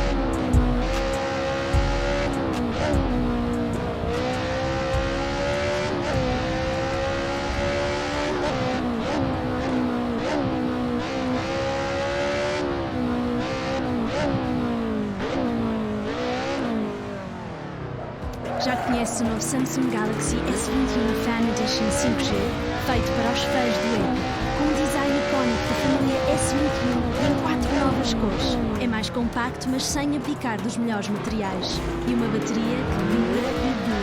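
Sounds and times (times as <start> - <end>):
car engine revving through gears: 0.0 - 34.0.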